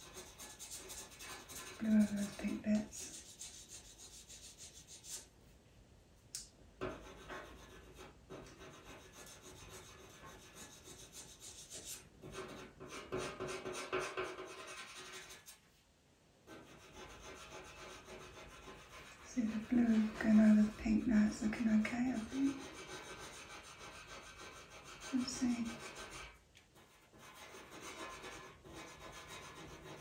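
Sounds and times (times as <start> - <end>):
pencil scratching on paper: 0.0 - 5.3, 6.8 - 15.6, 16.5 - 30.0.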